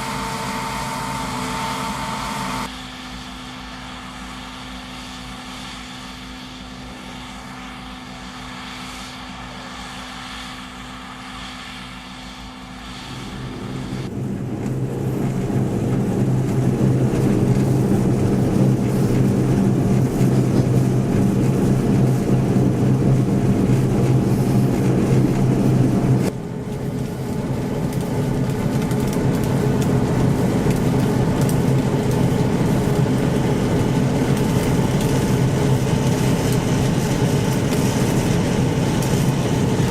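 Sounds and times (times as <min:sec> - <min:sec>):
combine harvester humming: 0:00.0 - 0:04.0, 0:08.9 - 0:39.9.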